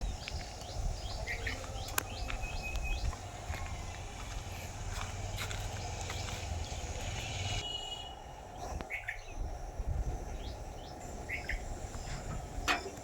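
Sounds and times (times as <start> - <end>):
steady low rumble: 0.0 - 12.8
birds chirping: 0.0 - 13.0.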